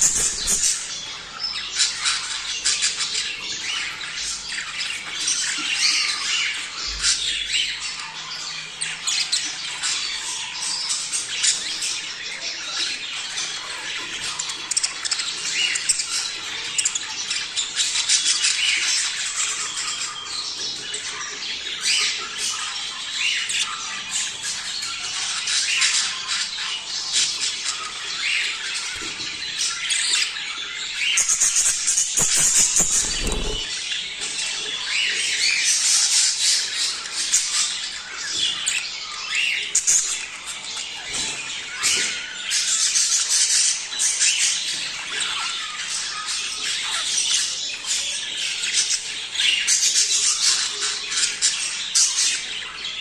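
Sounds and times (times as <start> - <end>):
budgerigars chattering: 0.0 - 53.0.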